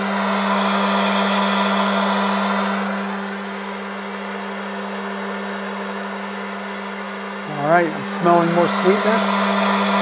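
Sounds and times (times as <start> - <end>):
fan blowing hot air: 0.0 - 10.0
motor hum: 0.0 - 10.0.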